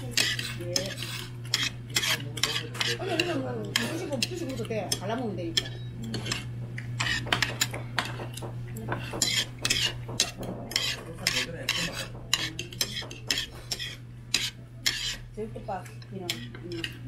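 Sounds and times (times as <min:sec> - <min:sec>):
metal utensils scraping a ceramic plate: 0:00.0 - 0:15.3, 0:16.2 - 0:17.0
steady low hum: 0:00.0 - 0:17.0.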